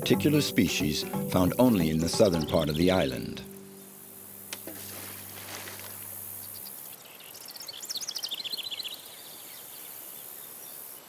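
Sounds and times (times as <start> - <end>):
bird chirping: 0.0 - 11.0
outdoor background hiss: 0.0 - 11.0.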